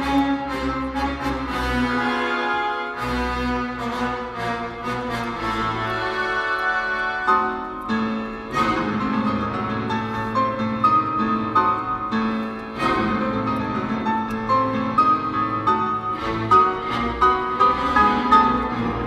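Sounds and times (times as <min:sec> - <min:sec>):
piano concerto on car audio: 0:03.6 - 0:19.0.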